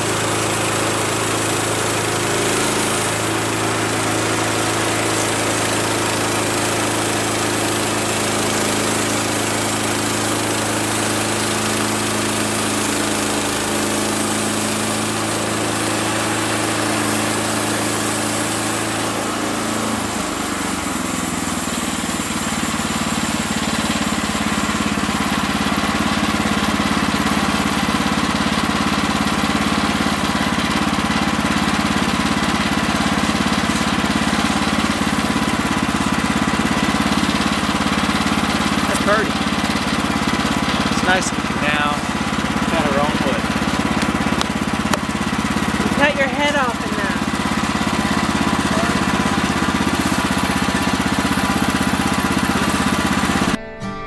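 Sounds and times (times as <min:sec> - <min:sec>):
band saw blade cutting log: 0:00.0 - 0:53.6
gas engine running: 0:00.0 - 0:54.0.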